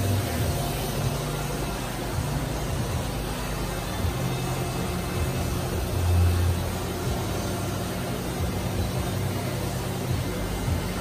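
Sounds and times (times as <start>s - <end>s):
aquarium pumps humming and hissing: 0.0s - 11.0s.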